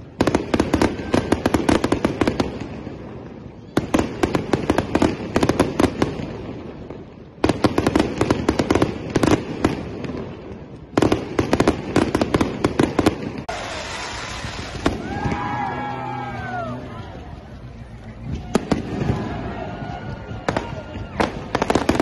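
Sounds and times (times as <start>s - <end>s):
fireworks crackling bangs: 0.0s - 22.0s.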